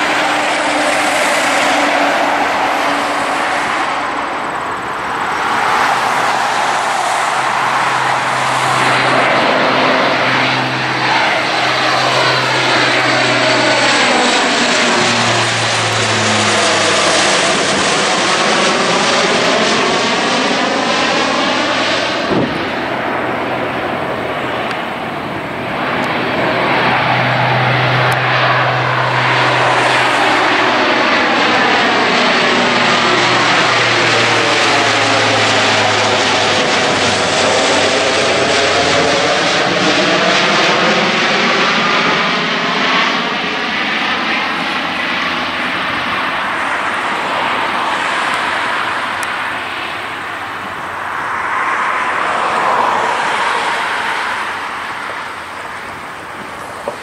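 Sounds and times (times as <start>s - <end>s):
turboprop aircraft droning overhead: 0.0s - 57.0s.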